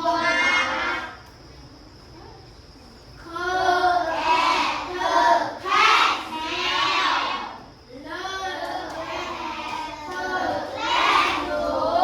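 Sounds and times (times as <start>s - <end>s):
children chanting together: 0.0s - 1.2s, 3.3s - 12.0s.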